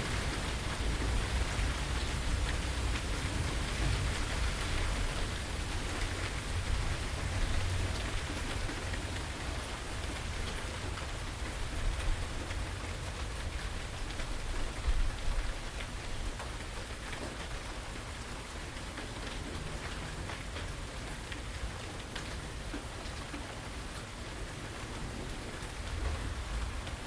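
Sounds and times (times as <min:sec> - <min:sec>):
raindrops ticking on surfaces: 0:00.0 - 0:27.0
steady rain hiss: 0:00.0 - 0:27.0.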